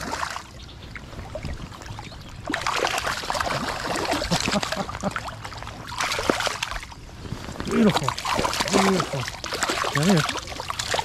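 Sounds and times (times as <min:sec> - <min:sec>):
fish thrashing and water splashing: 0:00.0 - 0:11.0.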